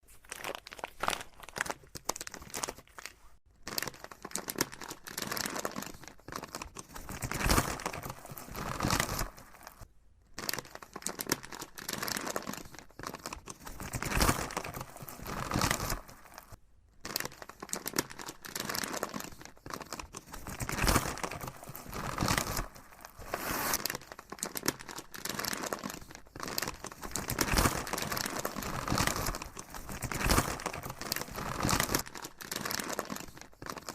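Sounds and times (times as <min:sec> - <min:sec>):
packaging crinkling: 0:00.0 - 0:09.8, 0:10.4 - 0:33.9.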